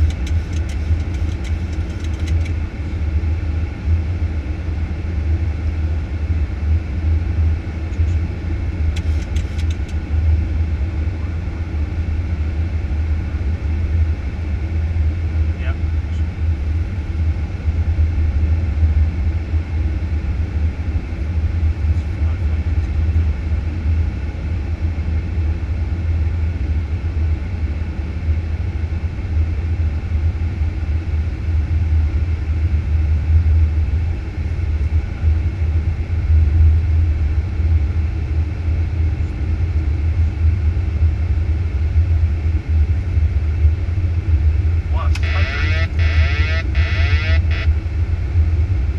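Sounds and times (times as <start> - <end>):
cockpit airflow and engine rumble: 0.0 - 48.9.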